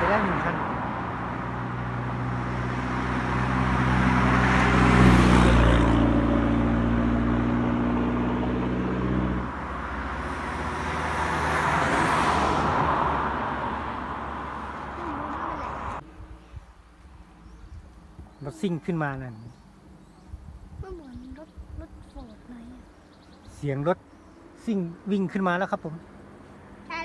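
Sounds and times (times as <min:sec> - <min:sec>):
vehicles driving uphill: 0:00.0 - 0:27.0.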